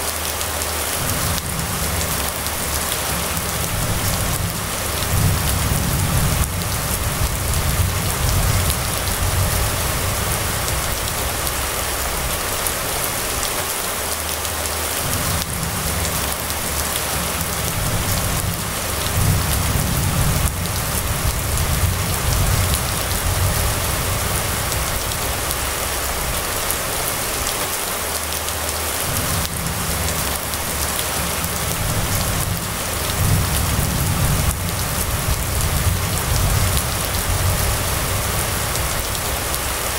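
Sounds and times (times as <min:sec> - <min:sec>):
rain on wet road: 0:00.0 - 0:39.9
low rumble: 0:01.0 - 0:13.5, 0:15.0 - 0:27.5, 0:29.0 - 0:39.9.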